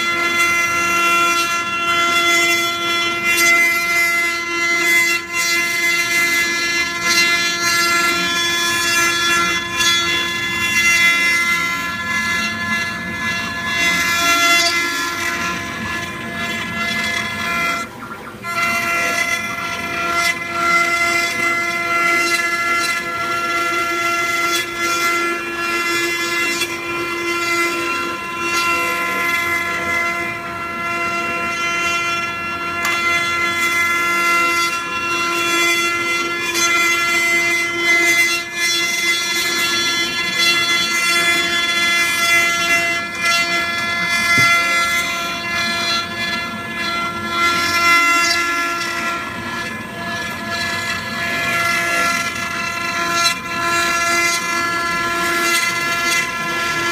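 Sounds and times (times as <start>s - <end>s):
router spindle whining: 0.0s - 56.9s.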